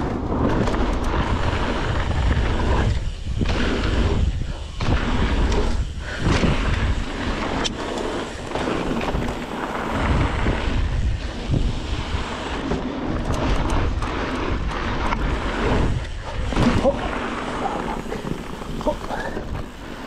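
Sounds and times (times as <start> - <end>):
bike knocks and rattles: 0.0 - 20.0
bike tyre rumble: 0.0 - 20.0
wind rush on microphone: 0.0 - 20.0.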